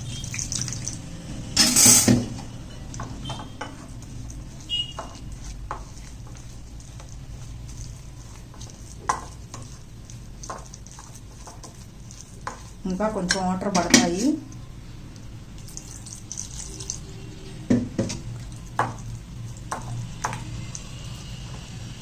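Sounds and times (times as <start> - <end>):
paste squelching and scraping: 3.0 - 21.7.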